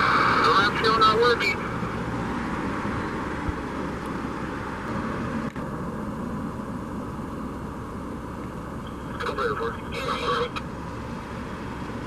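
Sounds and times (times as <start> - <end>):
vehicle running: 0.0 - 12.0.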